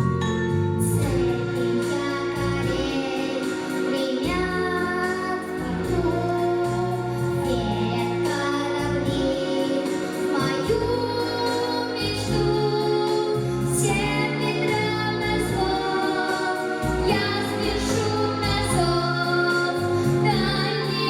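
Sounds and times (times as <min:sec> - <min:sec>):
repeating bass line: 0:00.0 - 0:09.7, 0:10.3 - 0:21.0
choir-like voices: 0:00.9 - 0:21.0.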